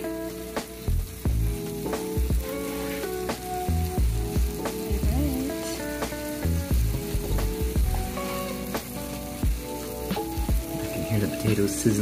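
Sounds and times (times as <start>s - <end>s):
background music with beat: 0.0s - 12.0s
potatoes sizzling in fat: 0.0s - 12.0s.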